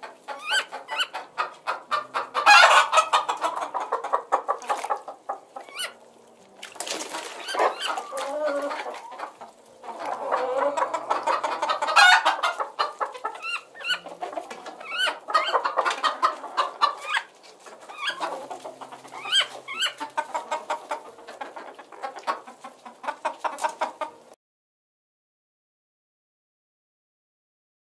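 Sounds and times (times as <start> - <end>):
chicken clucking: 0.0 - 24.4.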